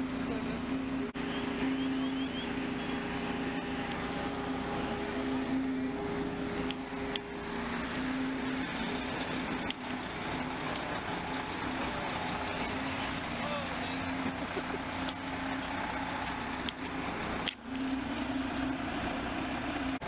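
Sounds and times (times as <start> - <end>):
fire engines running: 0.0 - 20.0.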